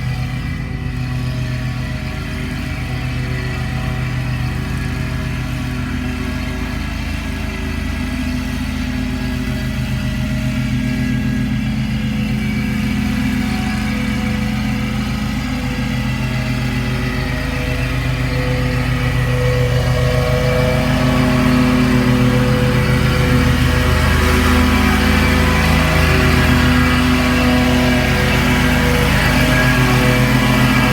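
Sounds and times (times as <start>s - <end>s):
lawn mower engine running: 0.0s - 30.9s.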